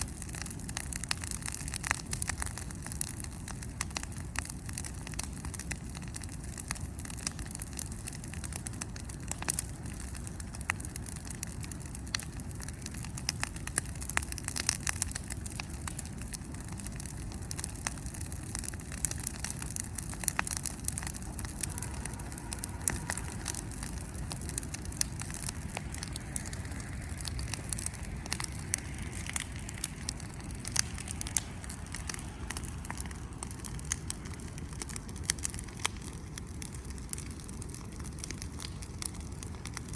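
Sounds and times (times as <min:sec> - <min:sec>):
low steady rumble: 0:00.0 - 0:39.9
wood bonfire crackling: 0:00.0 - 0:39.9.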